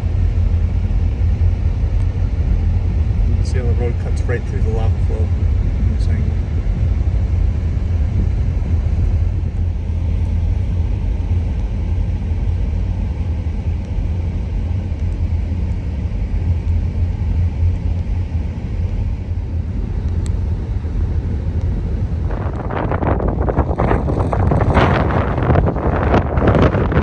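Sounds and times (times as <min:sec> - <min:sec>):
car interior rumble: 0:00.0 - 0:27.0
wind buffeting microphone: 0:00.0 - 0:27.0.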